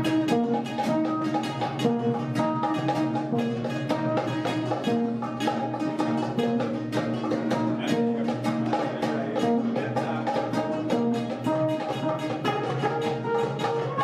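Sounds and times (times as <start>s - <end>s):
guitar: 0.0s - 14.0s
plucked string instrument: 0.0s - 14.0s.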